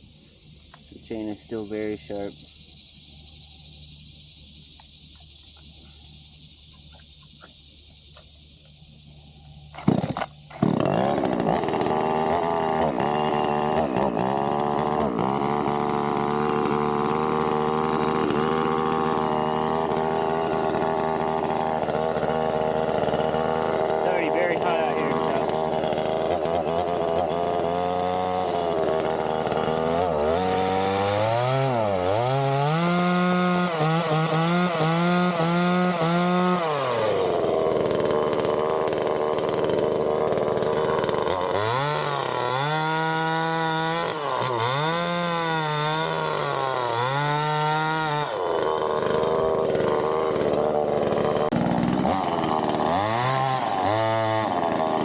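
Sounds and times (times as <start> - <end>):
chainsaw revving: 9.7 - 55.0.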